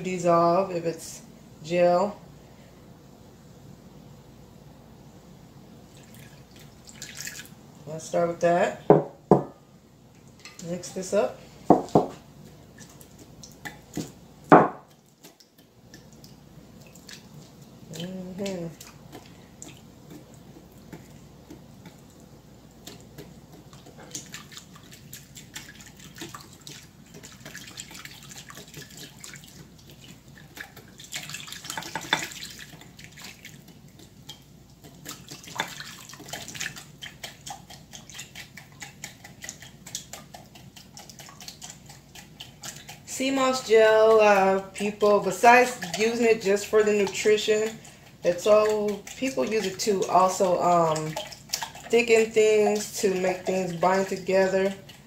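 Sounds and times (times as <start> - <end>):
liquid sloshing: 5.9 - 7.6, 10.2 - 55.0.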